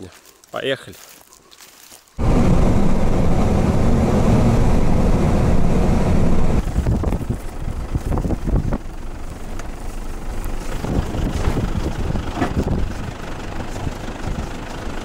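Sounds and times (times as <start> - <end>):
tyres and engine rumbling: 2.2 - 15.0.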